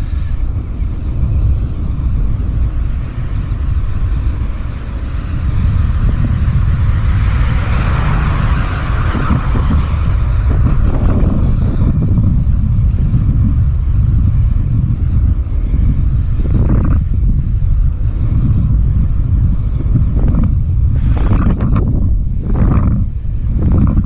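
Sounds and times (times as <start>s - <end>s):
hiss of passing vehicle: 0.0s - 24.0s
vehicle rumble: 0.0s - 24.0s.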